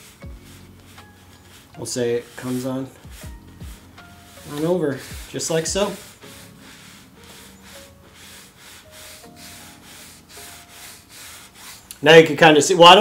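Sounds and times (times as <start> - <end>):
brush scrubbing paint on canvas: 0.0 - 12.7.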